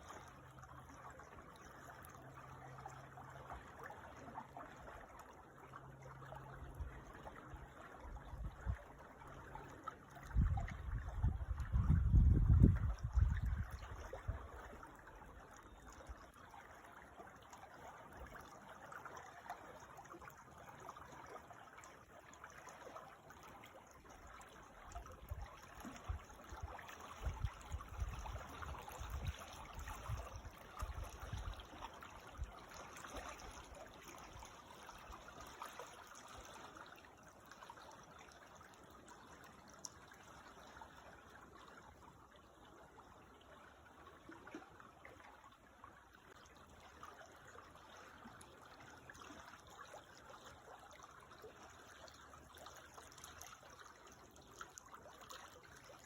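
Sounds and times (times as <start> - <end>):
creek water trickling: 0.0 - 56.0.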